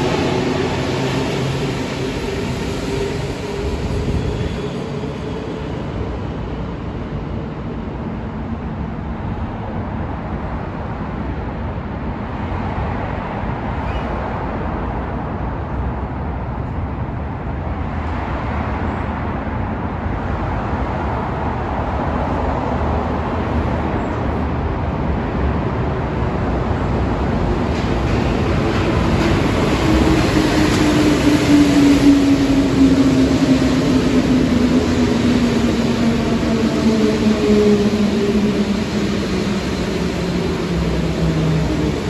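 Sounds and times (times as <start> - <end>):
metro train rumbling in tunnel: 0.0 - 42.0.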